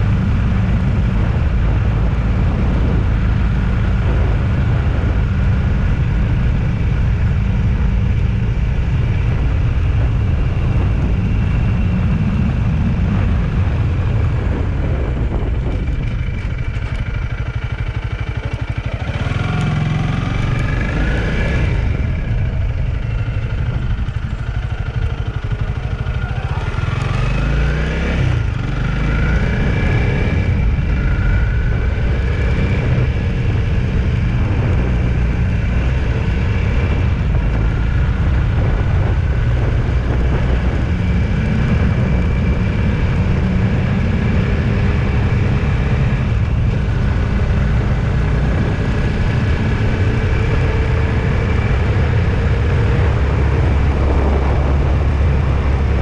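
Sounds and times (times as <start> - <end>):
road rumble: 0.0 - 56.0
vehicle engine: 0.0 - 56.0.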